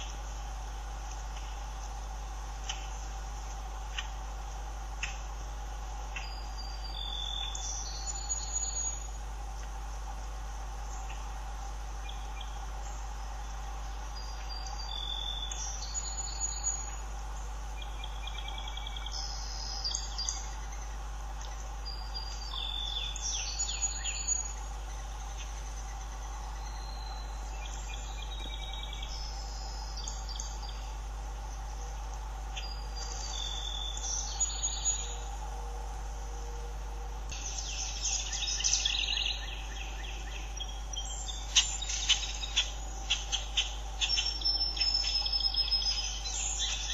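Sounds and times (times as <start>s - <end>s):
birds chirping: 0.0s - 46.9s
steady low hum: 0.0s - 46.9s.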